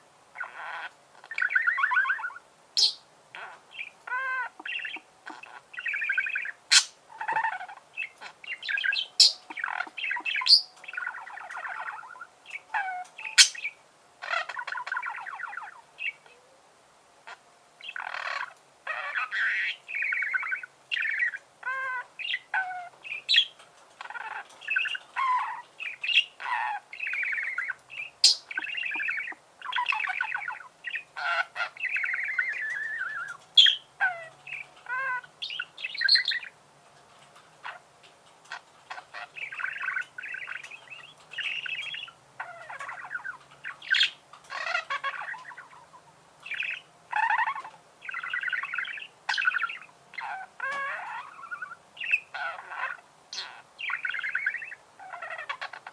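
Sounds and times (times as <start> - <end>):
budgerigars chirping and warbling: 0.3 - 16.4, 17.2 - 55.9.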